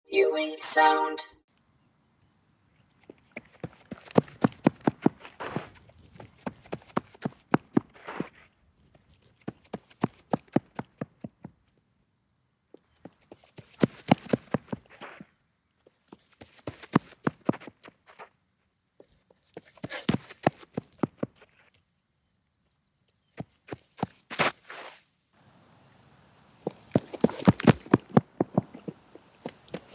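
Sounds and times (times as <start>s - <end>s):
running footsteps passing: 1.6s - 11.8s, 12.7s - 21.9s, 23.2s - 29.9s.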